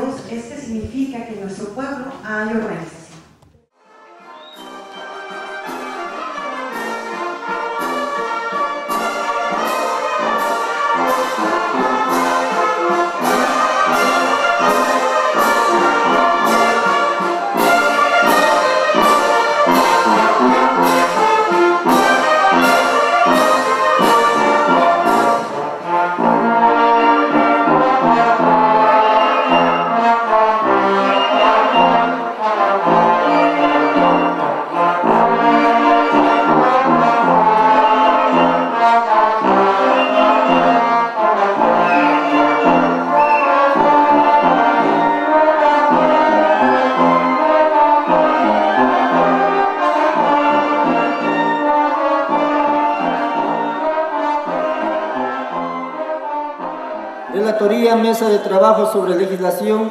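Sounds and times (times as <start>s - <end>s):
horns playing a melody: 3.8s - 59.5s.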